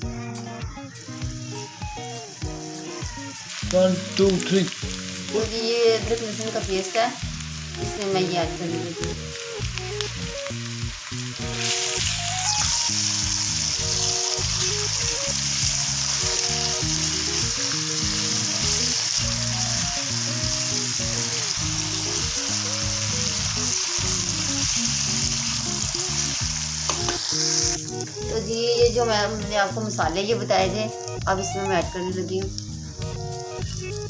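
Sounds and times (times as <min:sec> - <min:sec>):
background music: 0:00.0 - 0:34.0
onions sizzling in a pan: 0:00.0 - 0:34.0.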